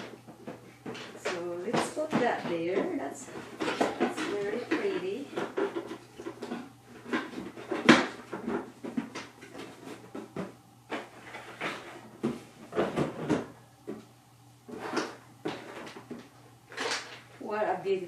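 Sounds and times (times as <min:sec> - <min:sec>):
toy and packaging clattering: 0:00.0 - 0:14.0, 0:14.7 - 0:17.5.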